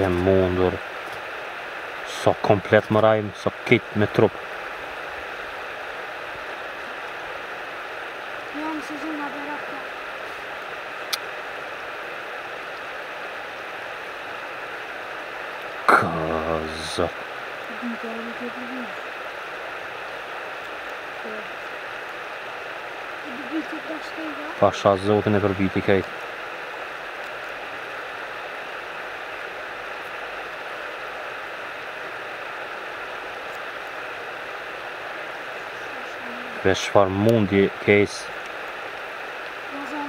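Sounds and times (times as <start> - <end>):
stream water flowing: 0.0 - 40.0.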